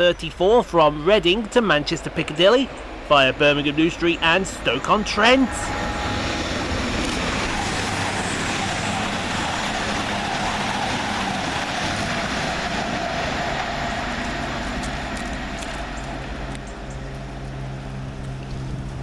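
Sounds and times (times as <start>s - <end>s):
diesel engines rumbling: 0.0s - 19.0s
train wheels on rail: 0.8s - 19.0s.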